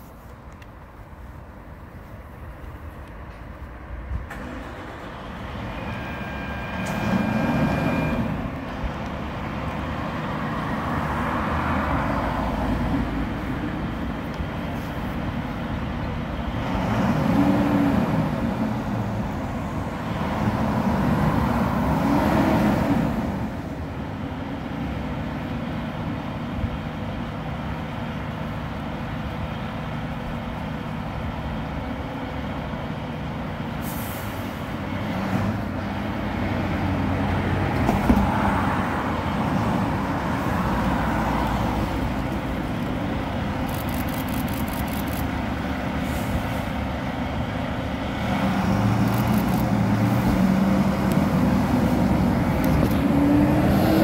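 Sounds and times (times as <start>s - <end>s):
cars passing: 0.0s - 54.0s
low engine hum: 0.0s - 54.0s.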